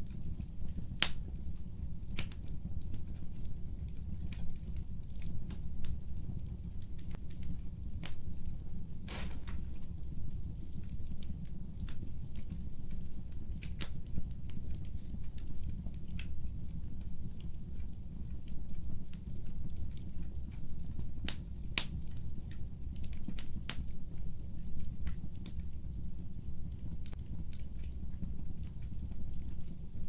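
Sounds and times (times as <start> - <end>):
fire crackling and popping: 0.0 - 30.0
low fire rumble: 0.0 - 30.0.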